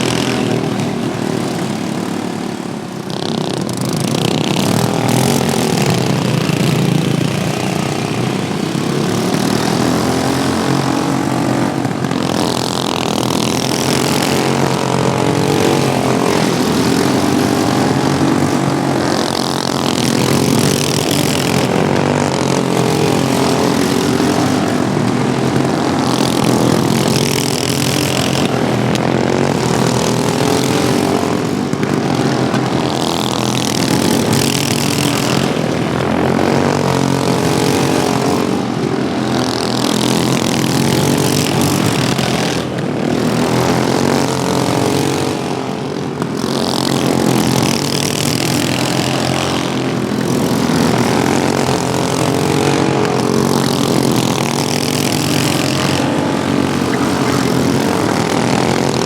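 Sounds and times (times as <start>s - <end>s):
racing lawnmower engines: 0.0s - 59.0s.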